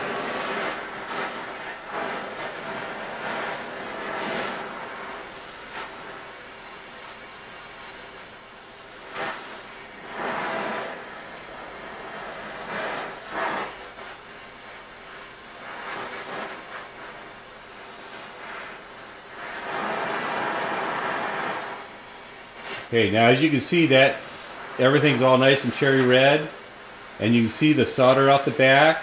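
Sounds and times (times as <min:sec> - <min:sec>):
torch flame hissing: 0:00.0 - 0:29.0.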